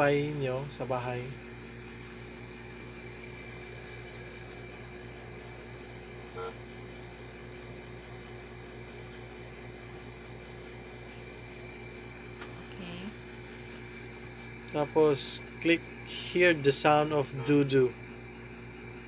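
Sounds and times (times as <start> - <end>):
electrical hum and hiss: 0.0 - 19.0.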